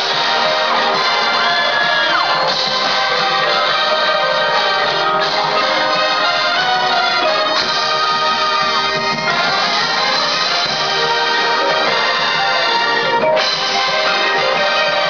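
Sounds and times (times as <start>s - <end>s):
brass holding loud chords: 0.0s - 15.0s.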